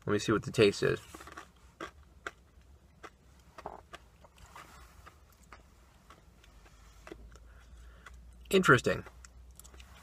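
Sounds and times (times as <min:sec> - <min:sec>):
low steady rumble: 0:00.0 - 0:10.0
candy being chewed: 0:01.1 - 0:10.0.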